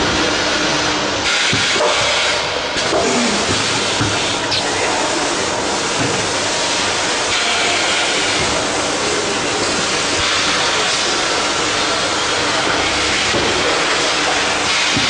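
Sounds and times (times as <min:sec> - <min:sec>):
packaging machine running: 0:00.0 - 0:15.0
machine hiss: 0:01.2 - 0:15.0.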